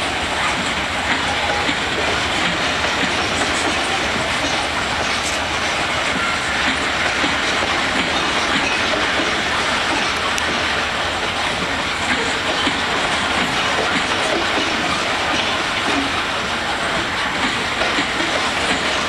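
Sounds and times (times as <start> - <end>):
train wheels clattering over rails: 0.0 - 19.0.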